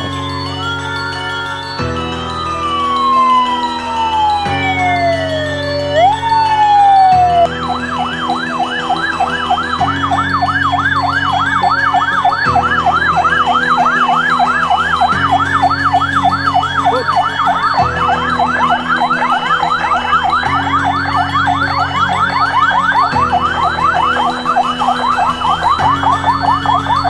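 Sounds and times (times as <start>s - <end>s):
electronic siren wailing and yelping: 2.6s - 27.0s.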